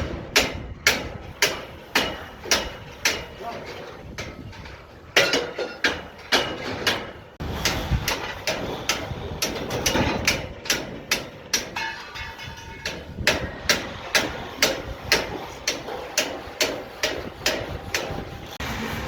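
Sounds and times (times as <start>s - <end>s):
steady mechanical noise: 0.0s - 19.0s.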